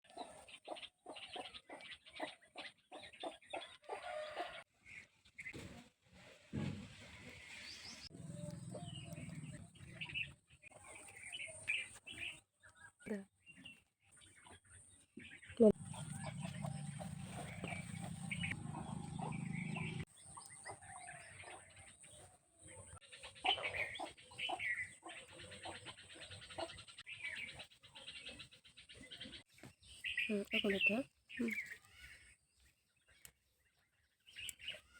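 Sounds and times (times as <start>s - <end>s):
bird-like chirps and clucks: 0.0s - 34.9s.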